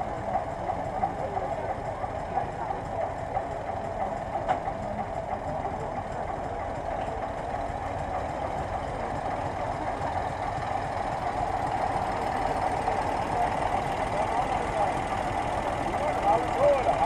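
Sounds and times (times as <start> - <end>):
old tractor engine chugging: 0.0 - 17.0.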